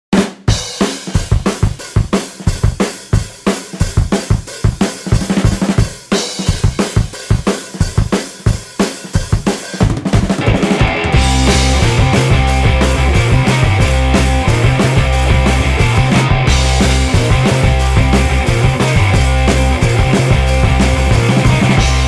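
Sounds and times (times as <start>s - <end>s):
drum kit playing fast beat: 0.1s - 22.0s.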